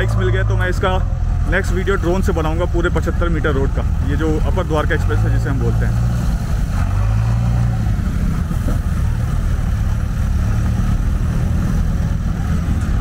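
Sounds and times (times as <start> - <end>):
diesel engine humming: 0.0 - 13.0
motorcycles passing: 0.0 - 13.0.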